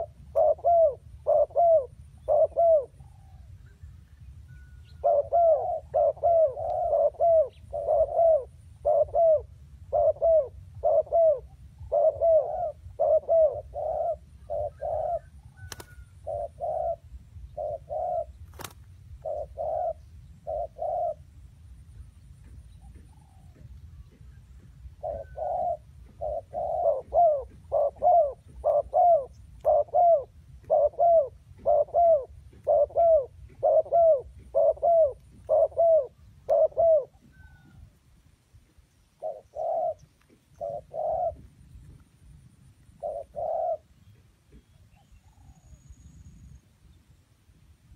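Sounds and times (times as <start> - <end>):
dove cooing: 0.0 - 3.6, 4.6 - 21.4, 22.4 - 37.9, 39.2 - 41.9, 42.8 - 45.8.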